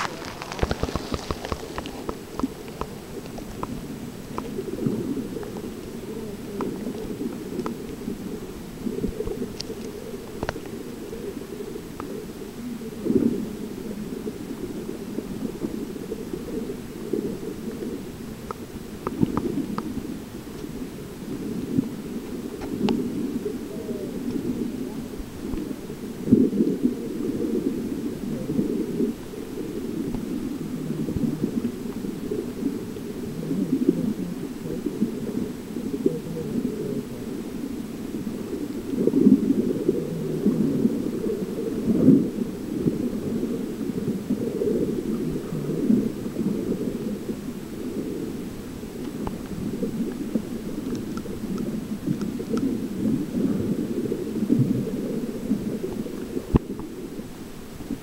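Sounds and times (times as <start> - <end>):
muffled underwater rumbling: 0.0 - 58.0.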